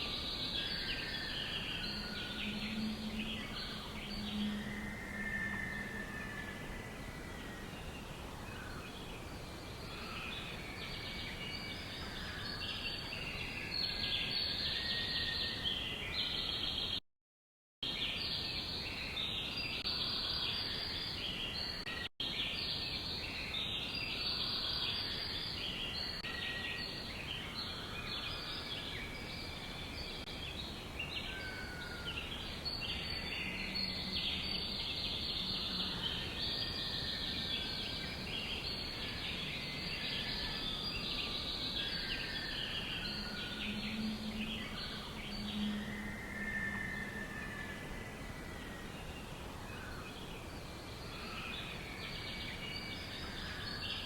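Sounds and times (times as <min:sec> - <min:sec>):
many small birds chirping: 0:00.0 - 0:17.0, 0:17.9 - 0:54.0.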